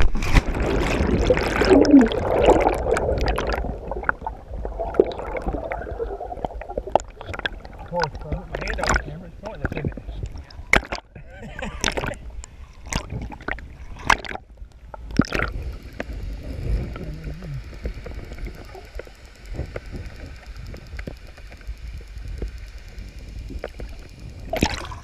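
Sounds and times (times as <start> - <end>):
water sloshing and gurgling: 0.0 - 25.0.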